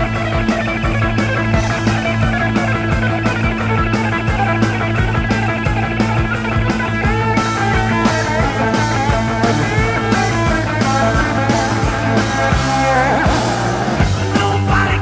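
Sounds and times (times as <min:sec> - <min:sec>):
rock music from vinyl record: 0:00.0 - 0:15.0.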